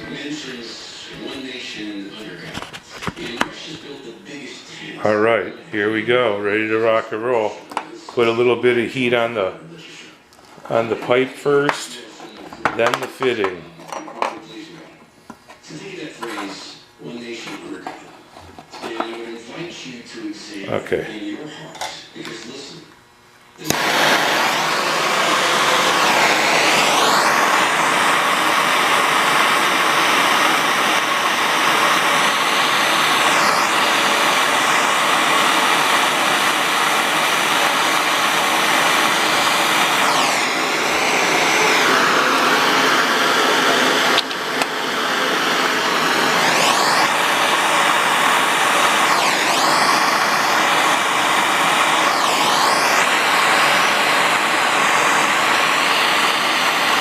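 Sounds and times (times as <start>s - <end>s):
gas torch hissing: 0.0s - 13.8s, 14.4s - 22.8s, 23.6s - 57.0s.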